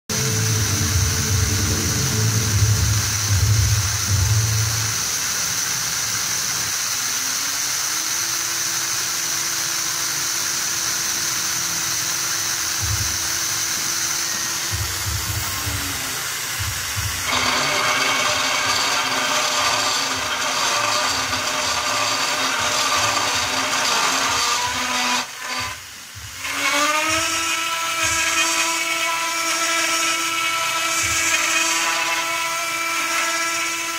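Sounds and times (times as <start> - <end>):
milling spindle cutting metal: 0.1 - 33.9.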